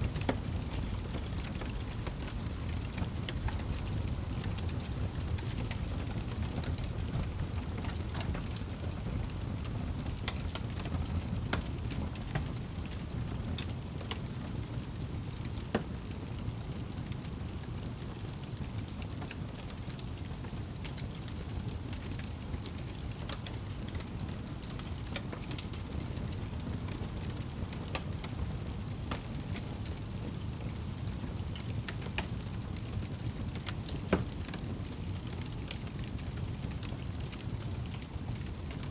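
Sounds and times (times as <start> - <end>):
fire crackling: 0.0 - 38.9
steady rain: 0.0 - 38.9.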